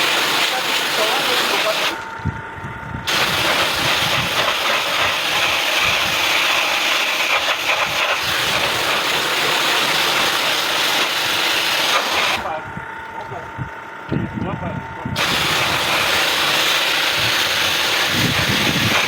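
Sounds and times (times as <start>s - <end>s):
water jet spraying coil: 0.0s - 2.2s, 3.0s - 12.6s, 15.2s - 19.0s.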